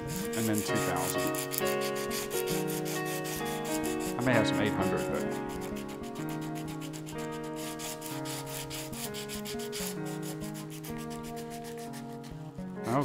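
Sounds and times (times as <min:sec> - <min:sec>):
background music: 0:00.0 - 0:13.0
sandpaper rubbing on wood: 0:00.0 - 0:13.0.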